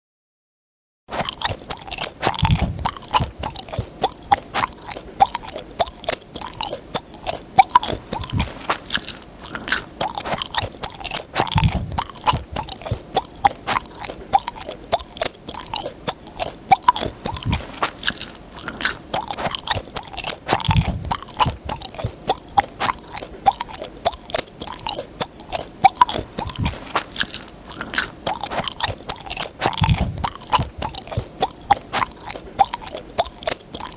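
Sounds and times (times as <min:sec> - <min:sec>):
person chewing gum: 0:01.1 - 0:33.9.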